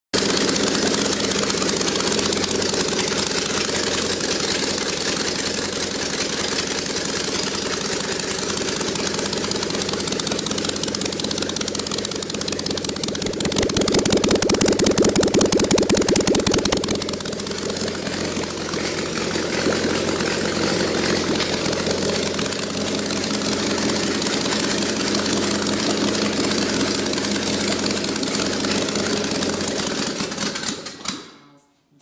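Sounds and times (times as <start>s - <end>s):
engine idling: 0.2s - 31.1s
engine running down: 0.2s - 31.1s.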